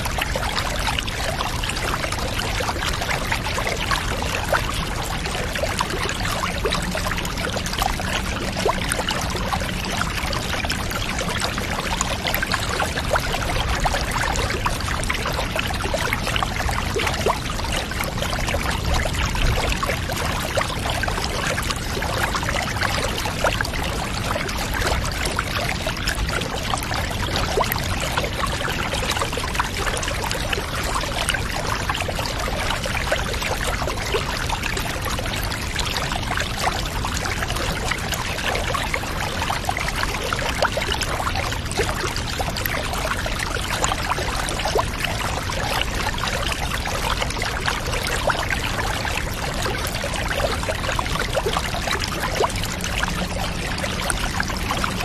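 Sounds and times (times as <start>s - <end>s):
water pouring: 0.0s - 55.0s.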